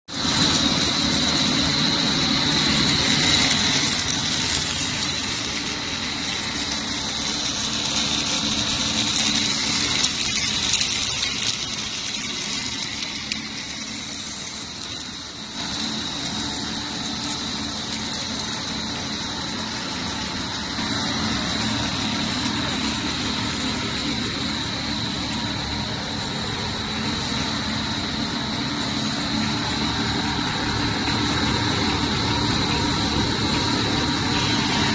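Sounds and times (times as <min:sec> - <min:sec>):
high-pitched whine: 0:00.1 - 0:34.9
machine drives humming: 0:00.1 - 0:34.9.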